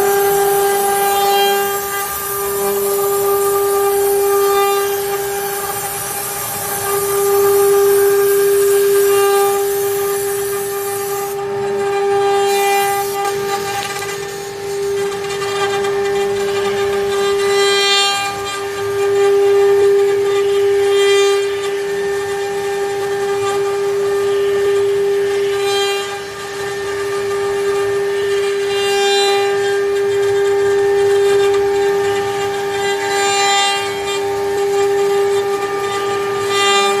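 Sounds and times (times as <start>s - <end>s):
router spindles whining: 0.0s - 37.0s.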